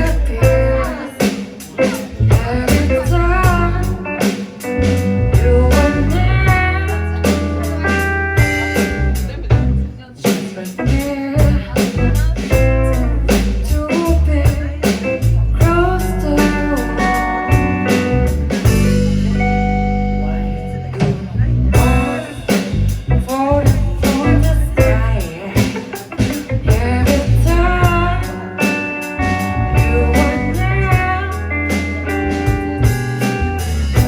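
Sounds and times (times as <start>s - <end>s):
person singing: 0.0s - 9.4s, 10.2s - 19.4s, 20.2s - 34.0s
drum kit: 0.0s - 34.0s
guitar: 0.0s - 34.0s.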